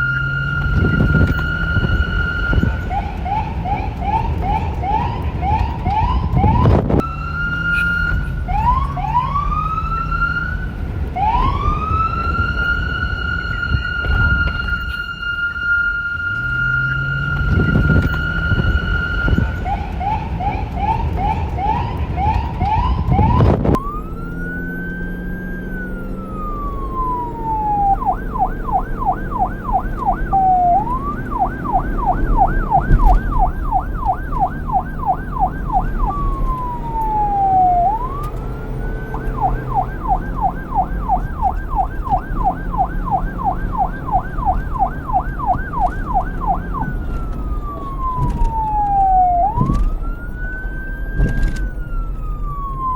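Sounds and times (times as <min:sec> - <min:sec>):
chirping siren: 0:00.0 - 0:52.9
low vehicle rumble: 0:00.0 - 0:52.9
police siren wailing and yelping: 0:00.0 - 0:52.9.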